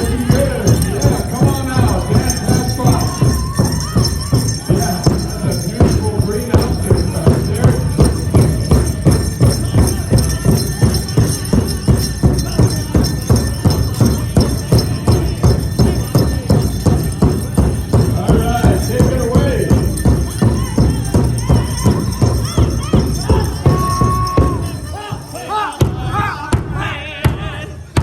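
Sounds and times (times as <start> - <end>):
large hand drum beating: 0.0 - 24.9
voices singing: 0.0 - 28.0.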